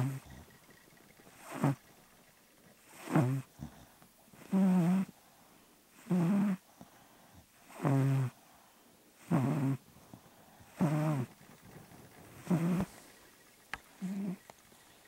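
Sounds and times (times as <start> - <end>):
cat snoring: 0.0 - 5.2, 5.9 - 6.7, 7.3 - 8.4, 9.2 - 15.0.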